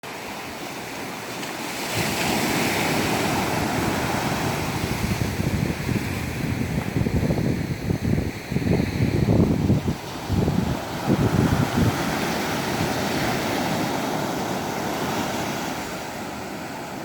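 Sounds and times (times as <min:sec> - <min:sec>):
ocean waves washing in surf: 0:00.0 - 0:17.0
wind buffeting microphone: 0:01.9 - 0:17.0.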